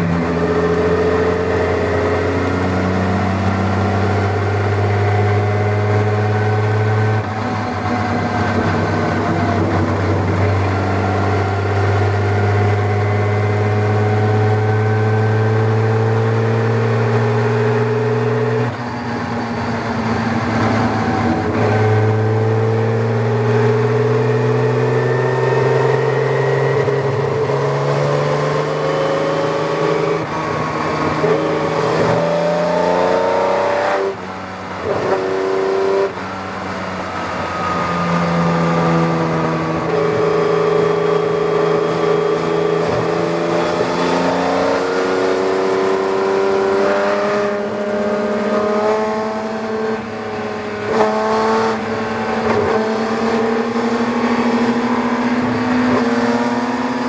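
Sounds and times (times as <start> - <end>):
racing engine running hard: 0.0 - 57.0.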